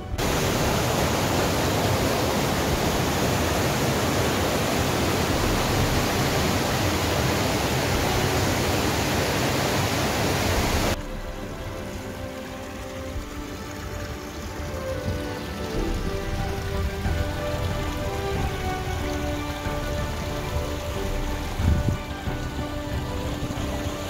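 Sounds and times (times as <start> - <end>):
background music with held notes: 0.0 - 24.0
stream rushing over rocks: 0.0 - 24.0.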